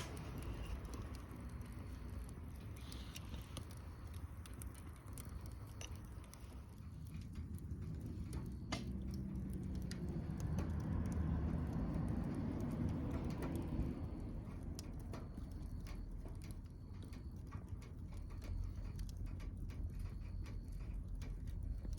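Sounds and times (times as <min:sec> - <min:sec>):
low rumble: 0:00.0 - 0:21.9
wood fire crackling: 0:00.0 - 0:21.9.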